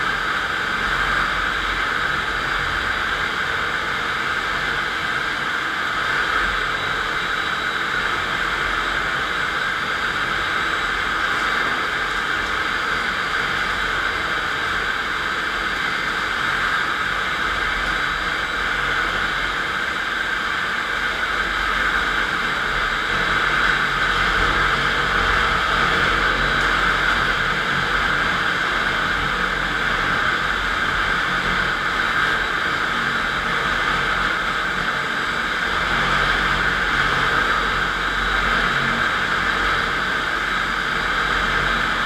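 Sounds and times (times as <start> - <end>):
floor grinder whirring: 0.0 - 42.0.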